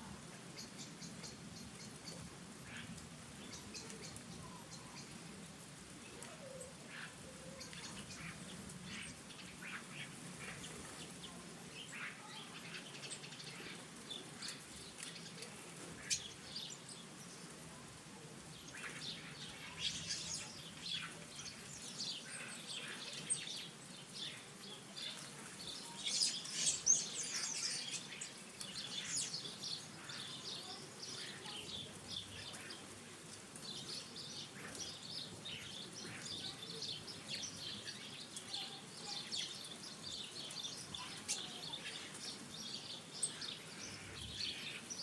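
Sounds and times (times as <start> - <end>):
small birds chirping and twittering: 0.0 - 45.0.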